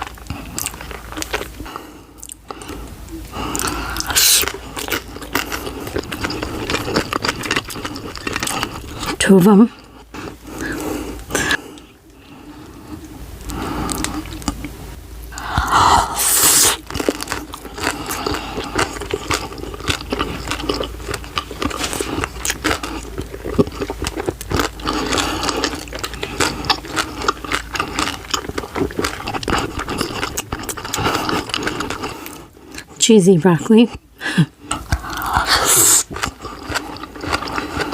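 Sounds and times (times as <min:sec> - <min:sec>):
wet chewing: 0:00.0 - 0:14.8, 0:15.4 - 0:33.0, 0:33.8 - 0:37.9.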